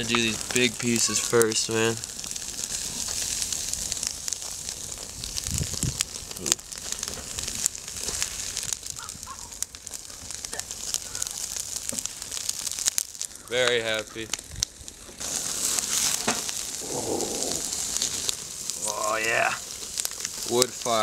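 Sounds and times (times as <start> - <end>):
meat searing hiss: 0.0 - 21.0
wood fire crackling: 0.0 - 21.0.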